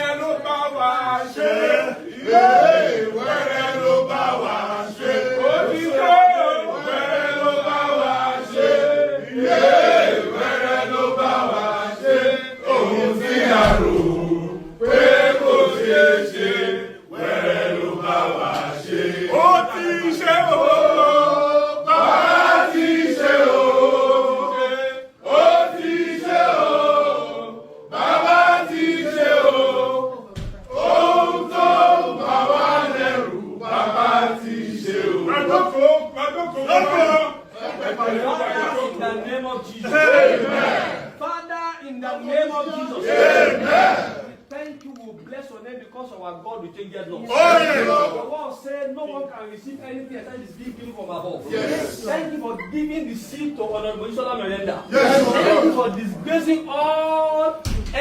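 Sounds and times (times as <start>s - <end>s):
group chanting and singing: 0.0s - 44.5s, 47.1s - 58.0s.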